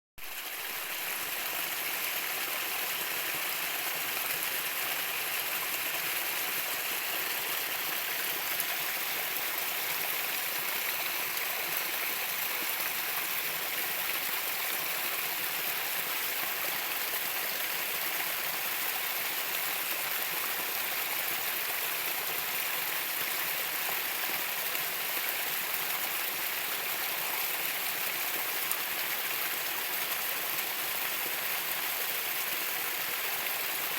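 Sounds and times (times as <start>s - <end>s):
stream water rushing: 0.2s - 33.9s.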